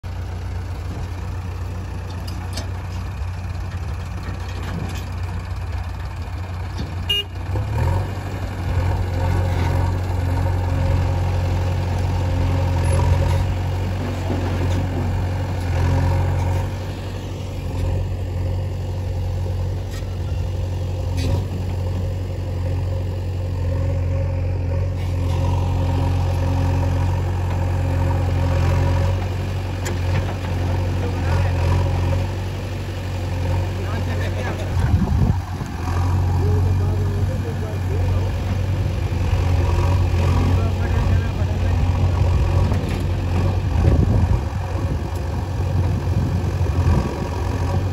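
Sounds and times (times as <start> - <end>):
diesel engine rumbling under load: 0.0 - 47.9.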